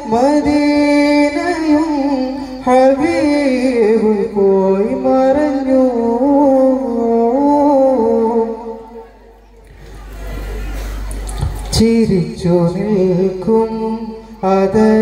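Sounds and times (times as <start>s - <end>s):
man singing into a microphone: 0.0s - 9.1s, 11.7s - 15.0s.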